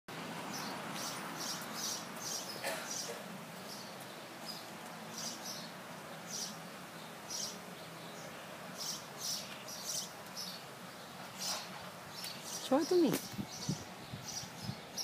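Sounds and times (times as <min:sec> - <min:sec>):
faint background noise: 0:00.1 - 0:15.0
birds chirping: 0:00.3 - 0:15.0.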